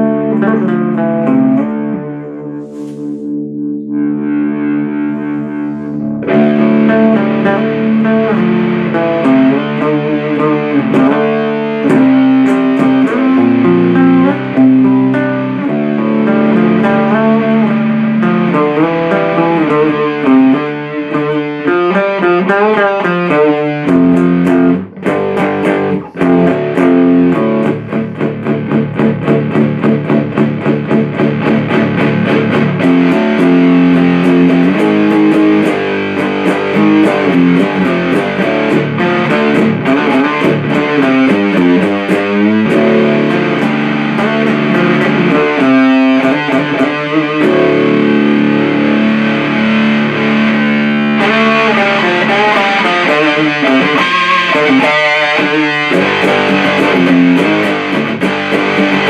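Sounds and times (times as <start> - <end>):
distorted electric guitar riffs: 0.0 - 59.0.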